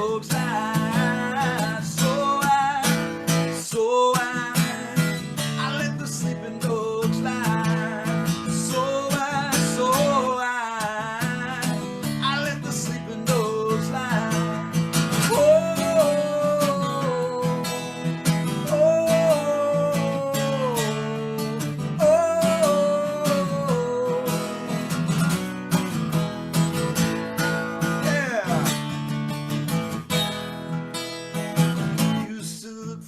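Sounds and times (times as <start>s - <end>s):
sliding guitar melody: 0.0s - 32.4s
strummed guitar chords: 0.0s - 33.0s.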